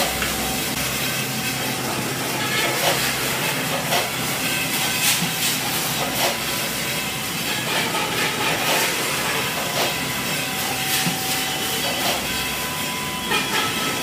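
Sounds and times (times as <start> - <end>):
packaging machine hiss: 0.0 - 14.0.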